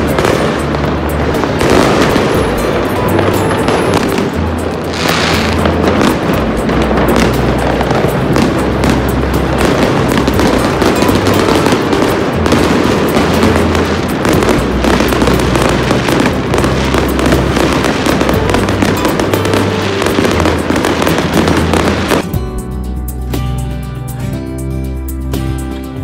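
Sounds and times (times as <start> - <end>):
fireworks crackling and popping: 0.0 - 22.3.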